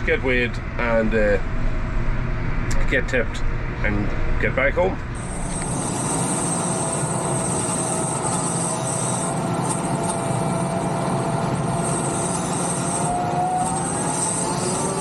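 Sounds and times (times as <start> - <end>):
faint whine: 0.0 - 15.0
tractor driving: 0.0 - 15.0.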